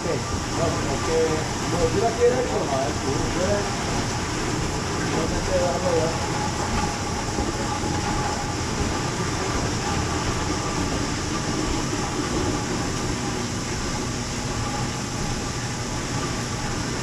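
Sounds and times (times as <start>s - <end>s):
pulping machine rattling and humming: 0.0s - 17.0s.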